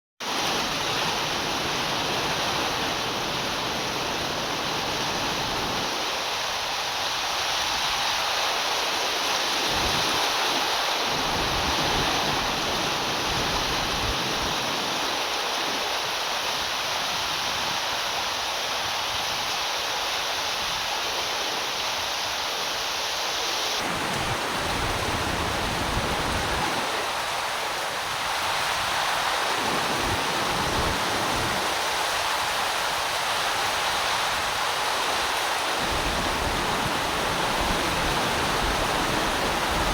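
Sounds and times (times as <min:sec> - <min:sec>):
heavy rain hissing: 0:00.2 - 0:39.9.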